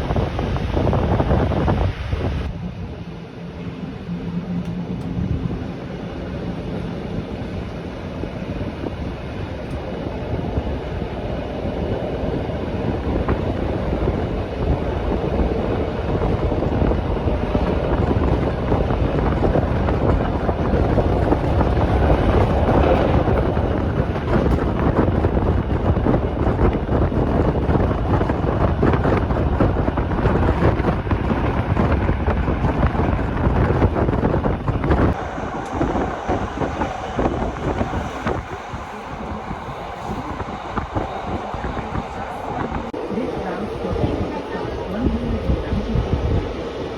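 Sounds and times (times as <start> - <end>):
train rattling: 0.0 - 46.9
train wheels rumbling on rails: 0.0 - 46.9.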